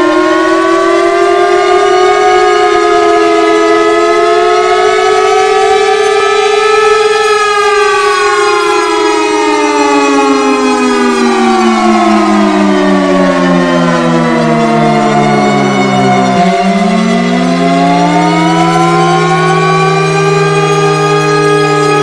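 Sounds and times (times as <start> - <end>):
air-raid siren wailing: 0.0 - 22.0.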